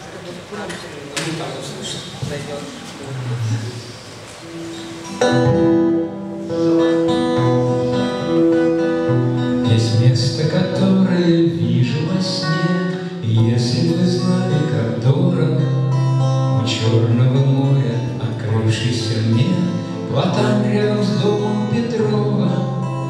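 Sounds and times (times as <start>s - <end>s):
acoustic guitar playing: 3.8s - 23.0s.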